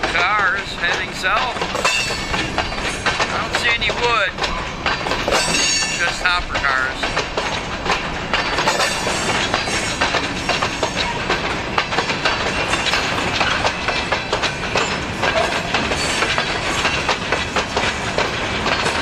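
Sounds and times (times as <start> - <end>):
freight train rumbling and rattling: 0.0 - 19.0
wheel clacks over rail joints: 0.0 - 19.0.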